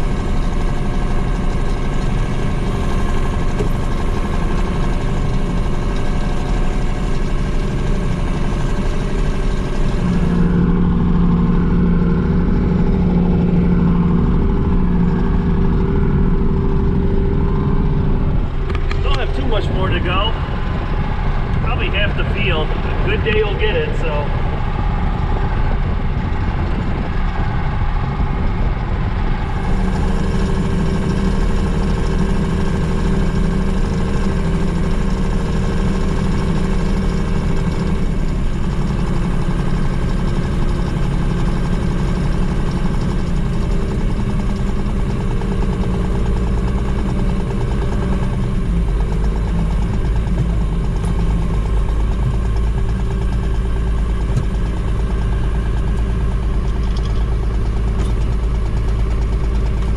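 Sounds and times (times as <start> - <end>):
diesel engine drone from cab: 0.0 - 59.9.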